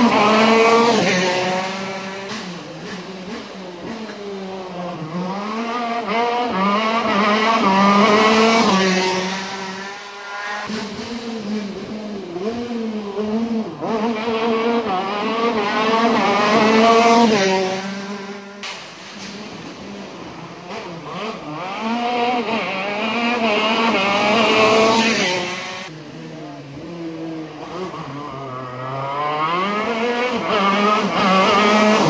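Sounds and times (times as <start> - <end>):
racing kart engines revving: 0.0 - 32.0.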